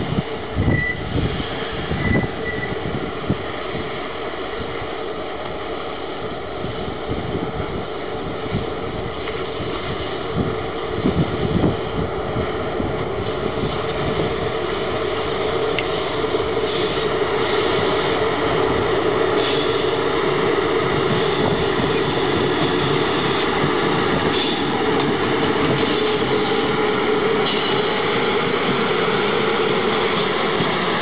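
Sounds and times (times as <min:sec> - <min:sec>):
locomotive hum: 0:00.0 - 0:31.0
train rumbling on rails: 0:00.0 - 0:31.0.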